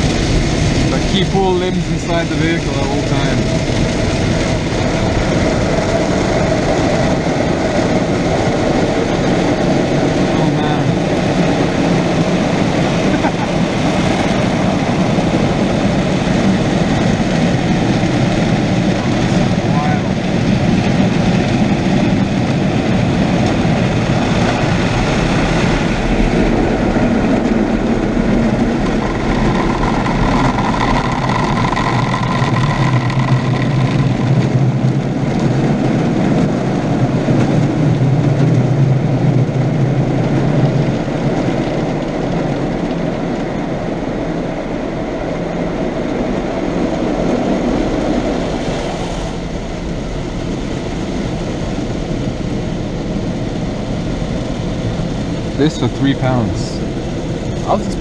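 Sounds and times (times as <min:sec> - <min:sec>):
car wash rushing noise: 0:00.0 - 0:58.0
machine hum: 0:00.0 - 0:58.0.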